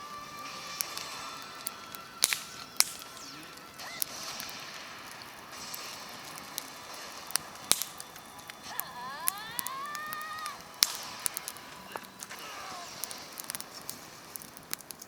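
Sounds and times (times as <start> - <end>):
thin rising whistling tone: 0.0 - 14.7
campfire crackling and popping: 0.0 - 15.0.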